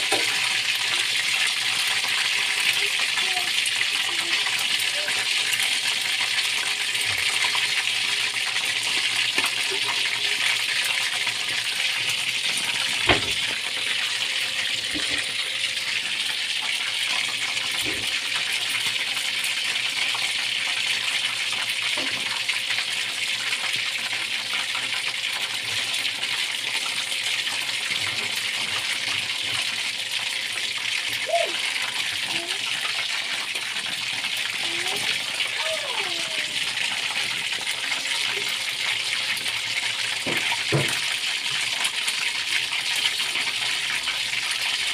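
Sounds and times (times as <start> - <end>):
chicken deep-frying in oil: 0.0 - 44.9.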